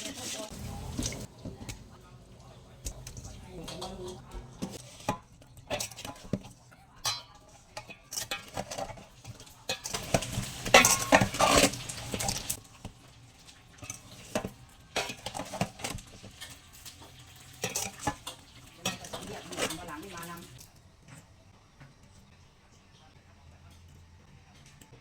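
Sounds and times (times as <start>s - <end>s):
metal utensils clinking on dishes: 0.0s - 21.3s.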